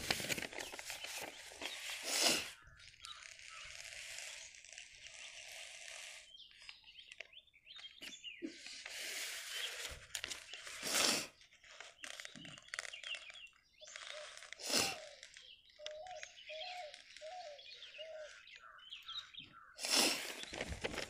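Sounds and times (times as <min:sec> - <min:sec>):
paper pages rustling: 0:00.0 - 0:07.2, 0:08.6 - 0:18.4, 0:20.1 - 0:21.0.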